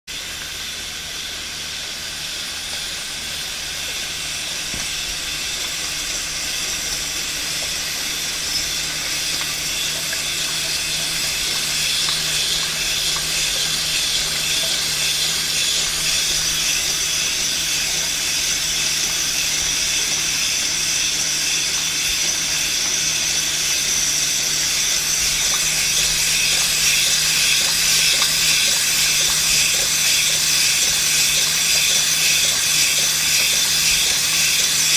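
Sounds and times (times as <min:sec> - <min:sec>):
hissing rush of liquid and gas: 0:00.1 - 0:34.9
low machine hum: 0:00.1 - 0:34.9.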